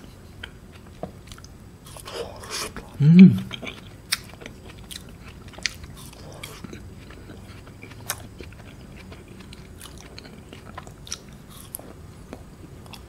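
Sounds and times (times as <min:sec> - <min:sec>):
ice cream chewing: 0:00.4 - 0:13.0.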